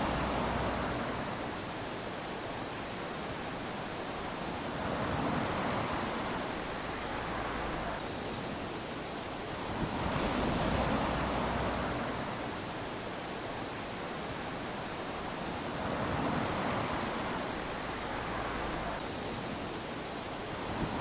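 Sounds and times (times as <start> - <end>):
small waves lapping on sand: 0.0 - 21.0.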